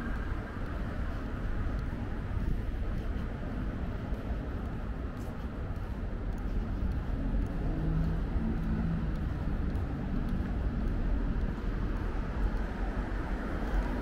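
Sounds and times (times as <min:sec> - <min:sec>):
steady low rumble: 0:00.0 - 0:14.0
vehicle engine hum: 0:00.0 - 0:14.0.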